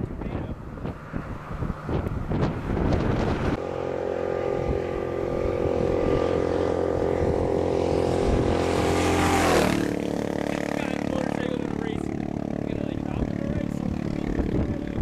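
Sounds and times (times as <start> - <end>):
vehicle driving past: 0.5 - 15.0.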